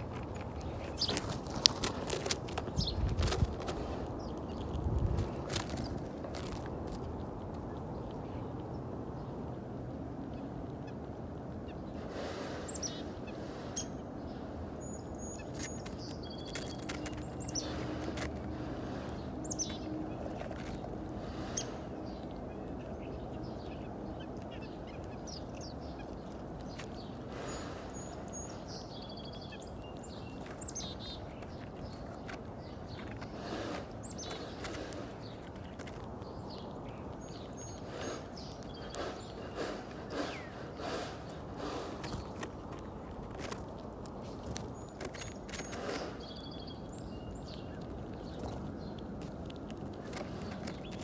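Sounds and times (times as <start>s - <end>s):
low background rumble: 0.0s - 51.0s
small birds chirping: 0.0s - 51.0s.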